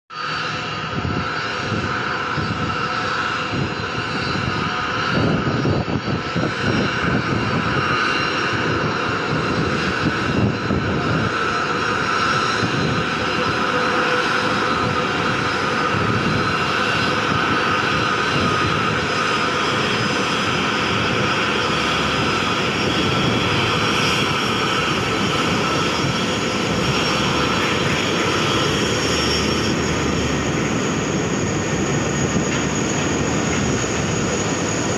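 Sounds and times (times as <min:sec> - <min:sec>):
jet engines rumbling and whining: 0:00.1 - 0:34.9.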